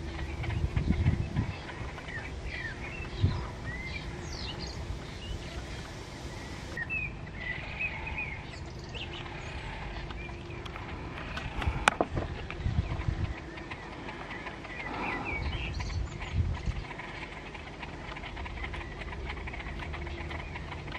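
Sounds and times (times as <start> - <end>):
low background rumble: 0.0 - 20.9
small birds chirping: 0.0 - 20.9.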